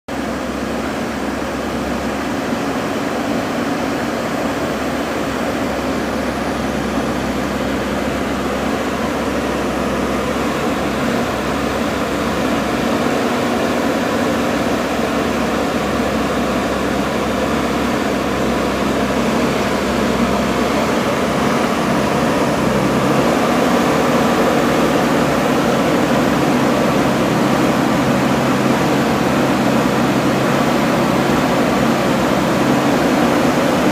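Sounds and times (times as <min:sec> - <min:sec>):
diesel engine running under load: 0:00.1 - 0:33.9.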